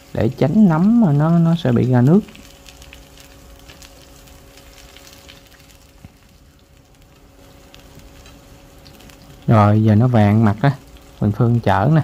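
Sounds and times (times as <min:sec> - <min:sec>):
faint crackles: 0:00.0 - 0:12.0
faint steady hum: 0:00.0 - 0:12.0
food sizzling in hot oil: 0:00.0 - 0:12.0.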